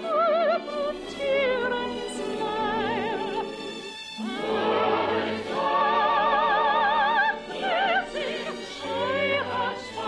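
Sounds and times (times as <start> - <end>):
orchestra and chorus: 0.0 - 10.0.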